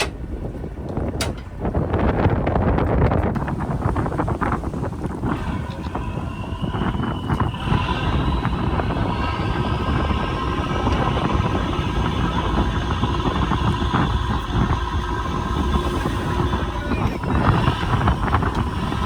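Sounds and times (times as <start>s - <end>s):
boat engine whining: 0.0s - 19.0s
wind buffeting microphone: 0.0s - 19.0s.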